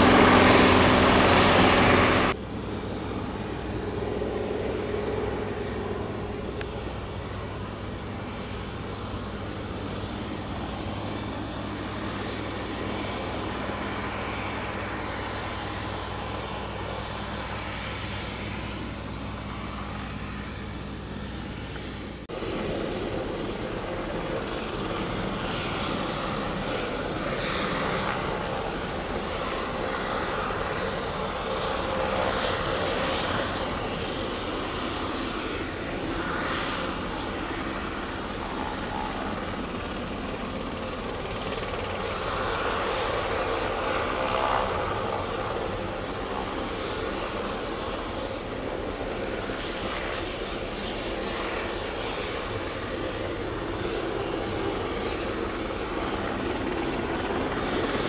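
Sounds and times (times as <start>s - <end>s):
helicopter turbine and rotor: 0.0s - 58.0s.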